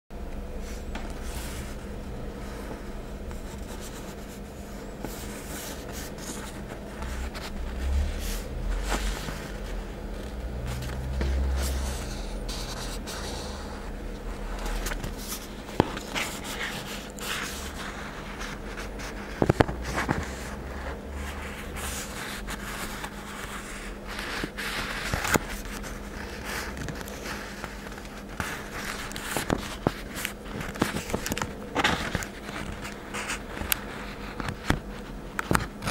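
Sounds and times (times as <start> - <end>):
faint steady hum: 0.1 - 35.9
fingers rubbing sticker paper: 3.3 - 34.6.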